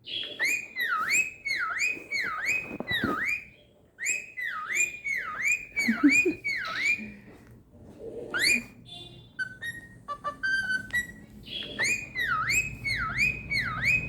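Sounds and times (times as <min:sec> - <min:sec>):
cockatiel whistling: 0:00.1 - 0:07.1, 0:08.3 - 0:08.8, 0:09.4 - 0:14.0.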